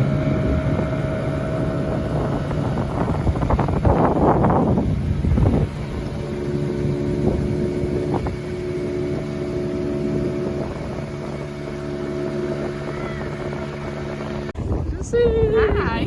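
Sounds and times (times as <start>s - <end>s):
vehicle engine droning: 0.0s - 14.6s.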